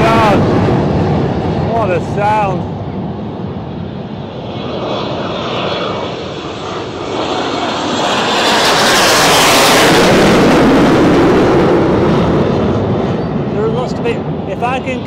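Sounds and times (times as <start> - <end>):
jets taking off overhead: 0.0 - 15.0.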